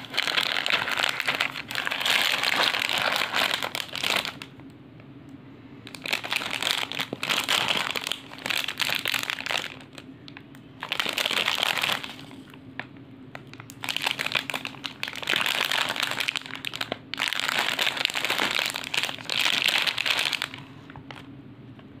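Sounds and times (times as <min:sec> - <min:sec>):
plastic snack packets crinkling: 0:00.0 - 0:04.6, 0:05.8 - 0:21.3.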